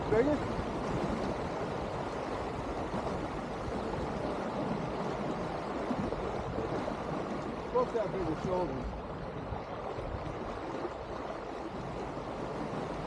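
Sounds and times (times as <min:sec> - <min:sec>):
water rushing along hull: 0:00.0 - 0:13.0
wind: 0:00.0 - 0:13.0.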